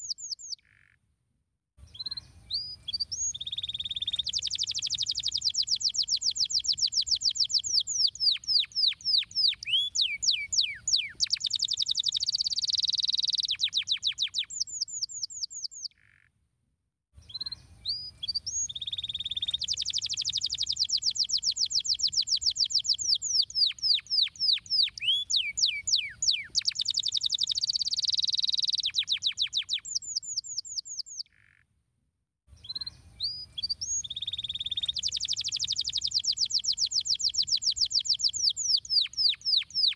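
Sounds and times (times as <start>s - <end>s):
canary singing trills: 0.0s - 0.9s, 1.9s - 16.2s, 17.2s - 31.6s, 32.6s - 39.9s.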